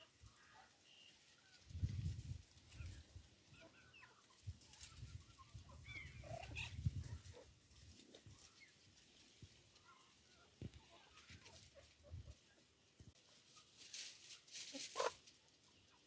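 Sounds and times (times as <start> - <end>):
chickens clucking softly: 0.0 - 16.0.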